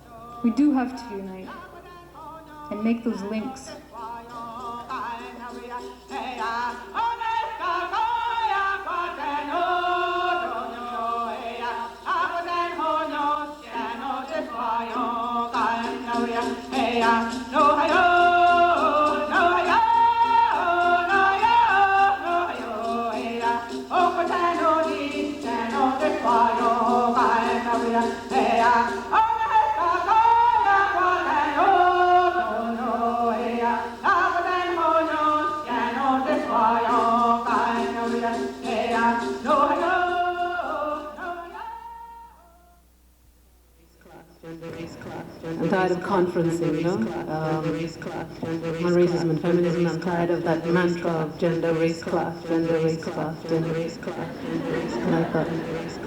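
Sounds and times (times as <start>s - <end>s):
women singing a cappella: 0.0s - 42.8s, 44.0s - 56.0s.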